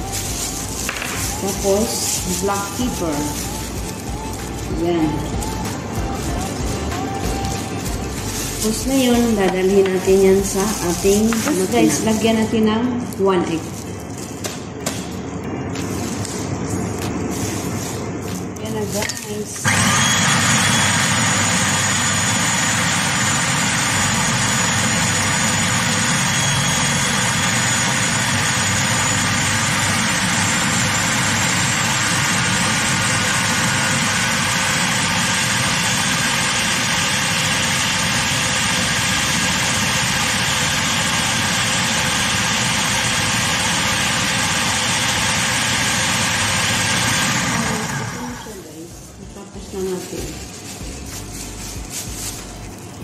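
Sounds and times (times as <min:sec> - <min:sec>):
food processor grinding: 0:00.0 - 0:12.6, 0:17.0 - 0:48.6.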